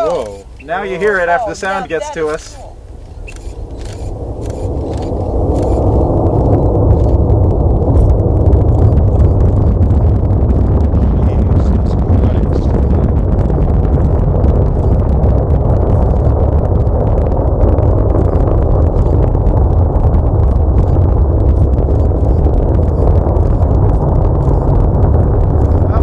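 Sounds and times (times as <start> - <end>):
distant rocket rumble: 0.0 - 26.0.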